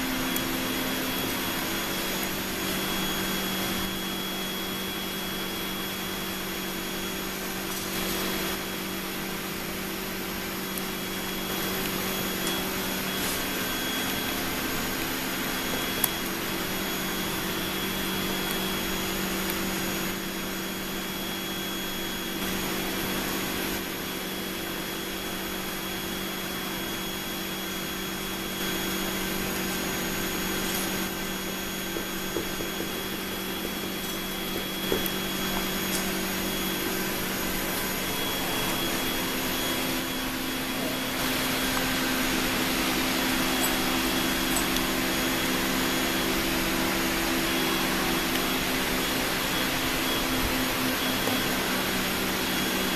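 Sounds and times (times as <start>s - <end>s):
exhaust blower humming: 0.0s - 52.9s.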